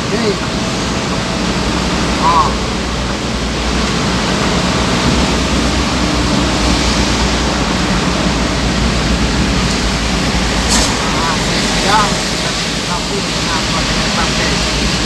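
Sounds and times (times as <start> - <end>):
low hum: 0.0 - 14.8
heavy rain: 0.0 - 15.0
road noise: 0.0 - 15.0.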